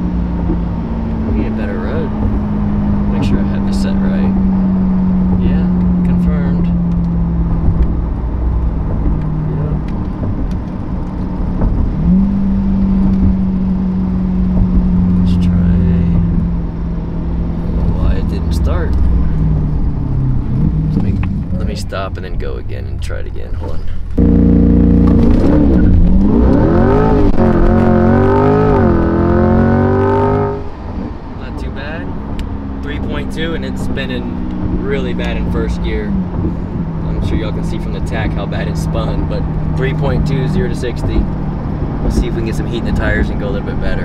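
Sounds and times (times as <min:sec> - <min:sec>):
car engine drone from cabin: 0:00.0 - 0:44.0
tires spinning: 0:00.0 - 0:44.0.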